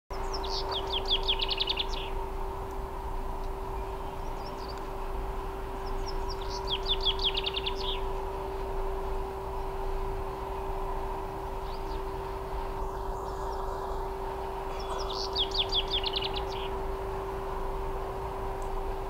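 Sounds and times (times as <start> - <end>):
chaffinch singing: 0.1 - 19.0
low rumble: 0.1 - 19.0
steady low hum: 0.1 - 19.0.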